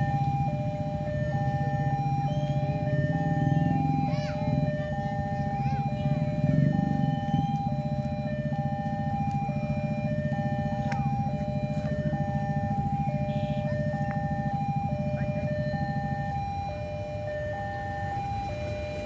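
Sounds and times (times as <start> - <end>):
level-crossing two-tone alarm: 0.0 - 19.0.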